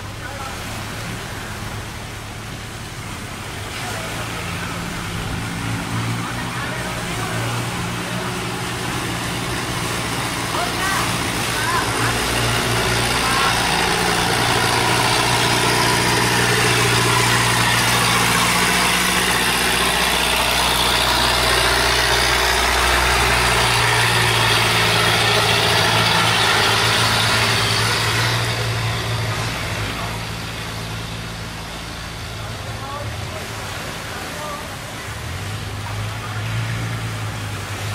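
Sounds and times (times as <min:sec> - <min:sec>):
boat engine running: 0:00.0 - 0:37.9
water rushing through gate: 0:00.0 - 0:37.9.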